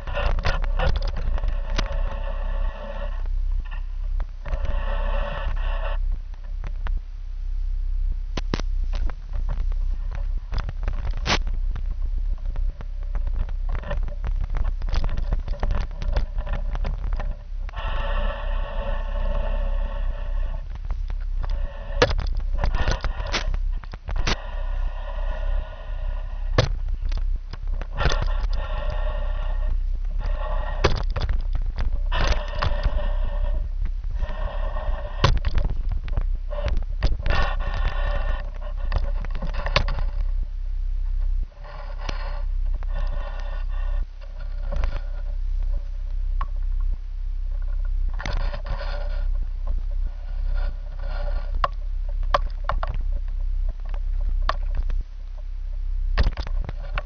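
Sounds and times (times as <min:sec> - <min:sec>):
squeaky scraping: 0:00.0 - 0:06.1, 0:09.0 - 0:40.4, 0:41.5 - 0:46.9, 0:47.5 - 0:55.5
microphone handling rumble: 0:00.0 - 0:57.0
steady hum: 0:00.0 - 0:57.0.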